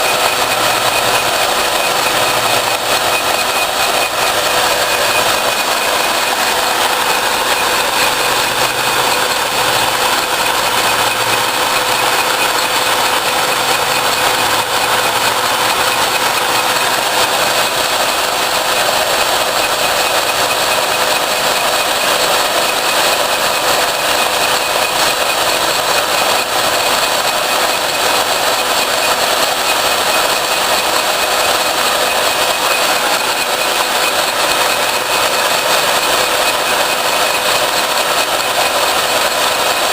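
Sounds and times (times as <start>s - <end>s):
cutter grinding metal: 0.0s - 39.9s
drill whine: 0.0s - 39.9s.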